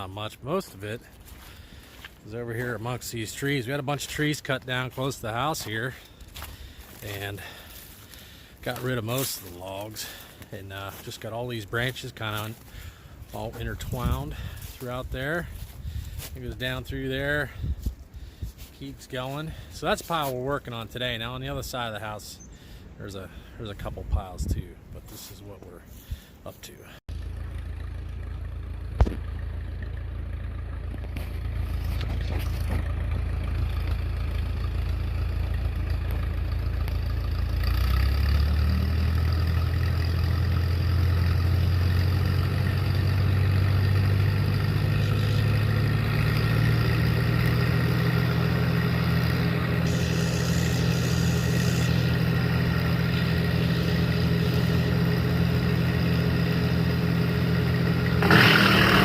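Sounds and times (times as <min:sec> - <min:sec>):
tractor engine revving: 0:00.0 - 0:15.7, 0:27.1 - 0:59.0.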